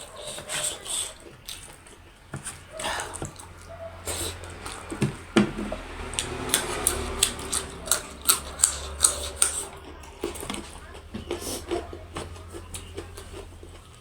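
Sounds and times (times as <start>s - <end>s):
chewing with wet mouth clicks: 0.0s - 14.0s.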